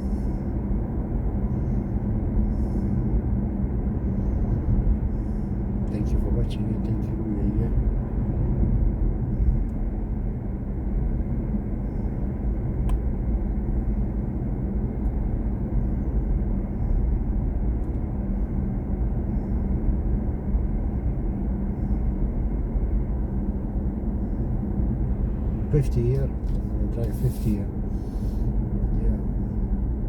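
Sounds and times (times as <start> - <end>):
car road and tyre rumble: 0.0 - 30.0.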